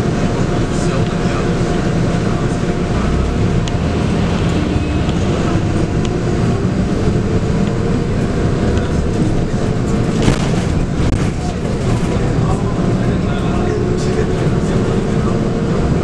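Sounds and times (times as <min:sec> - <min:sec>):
bus diesel engine running: 0:00.0 - 0:16.0
road and tyre noise: 0:00.0 - 0:16.0.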